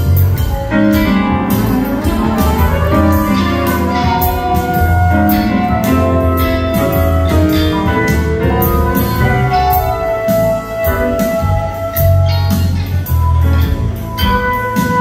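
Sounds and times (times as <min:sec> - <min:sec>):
live rock band playing: 0:00.0 - 0:15.0
steady drum beat: 0:00.0 - 0:15.0.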